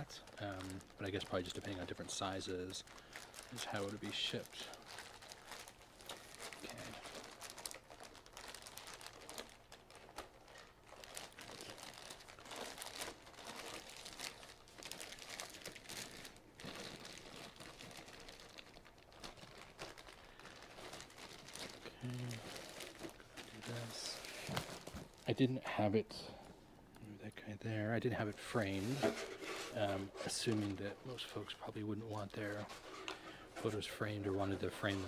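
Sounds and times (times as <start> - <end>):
plastic wrapping crinkling: 0.0 - 26.0, 28.0 - 35.0.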